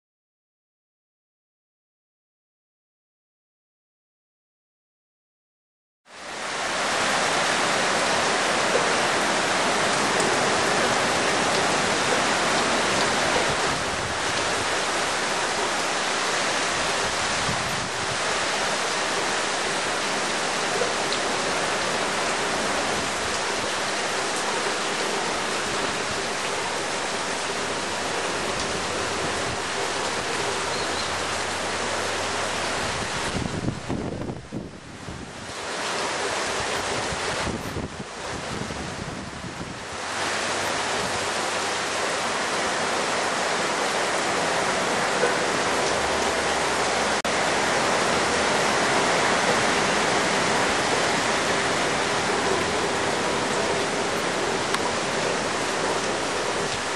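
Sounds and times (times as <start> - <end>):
heavy rain rushing: 6.1 - 56.9.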